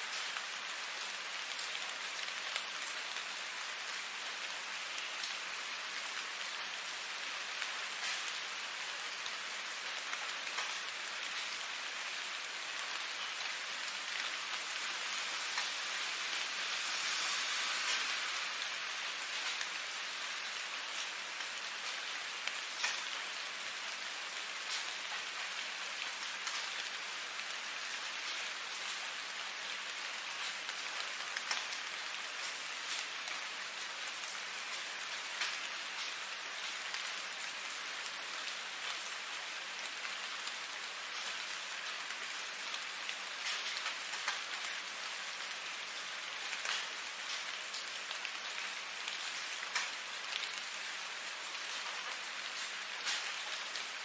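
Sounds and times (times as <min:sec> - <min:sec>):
sharper raindrops: 0:00.0 - 0:54.0
steady rain hiss: 0:00.0 - 0:54.0.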